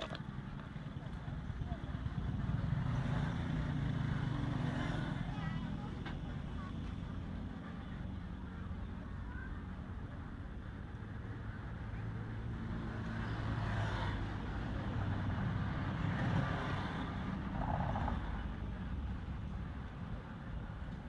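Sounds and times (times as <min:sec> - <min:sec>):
vehicle engine hum: 0:00.0 - 0:21.0.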